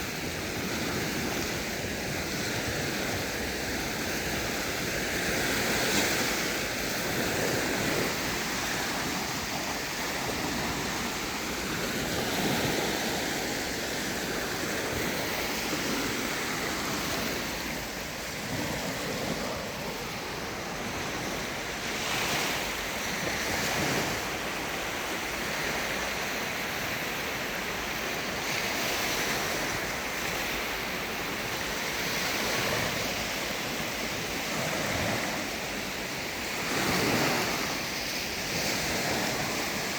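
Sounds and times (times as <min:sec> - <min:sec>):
waves washing onto a beach: 0:00.0 - 0:39.9
wind on the microphone: 0:00.0 - 0:39.9.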